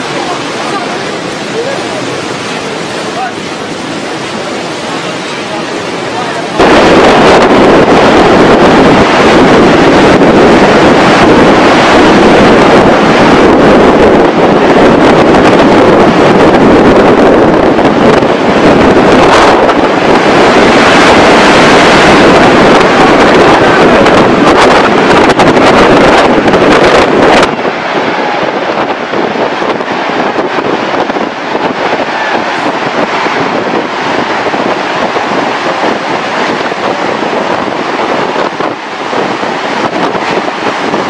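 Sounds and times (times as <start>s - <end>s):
floodwater roaring through street: 0.0s - 41.0s.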